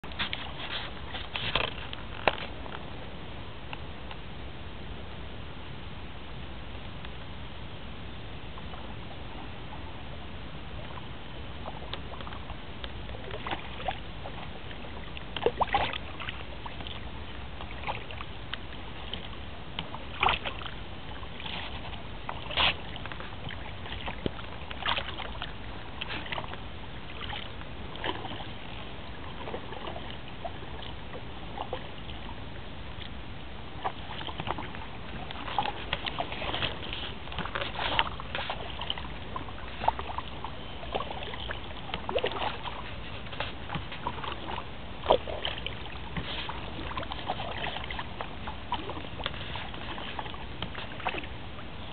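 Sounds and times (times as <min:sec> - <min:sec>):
paddle splashing in river water: 0:00.0 - 0:03.2, 0:08.6 - 0:51.9.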